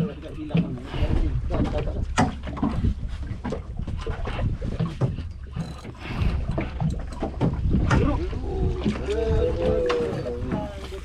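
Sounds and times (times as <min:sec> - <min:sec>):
water splashing against boat hull: 0:00.0 - 0:11.0
wind on microphone: 0:00.5 - 0:11.0.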